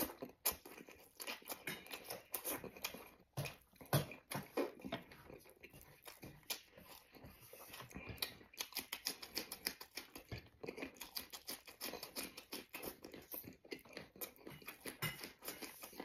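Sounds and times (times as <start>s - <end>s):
wet chewing and lip smacking: 0.0s - 16.0s.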